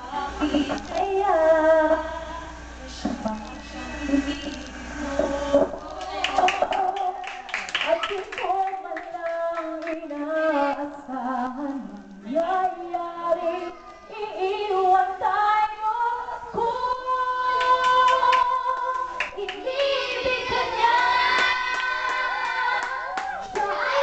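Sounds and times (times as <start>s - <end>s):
woman singing a slow ballad: 0.0s - 7.2s, 7.8s - 20.6s.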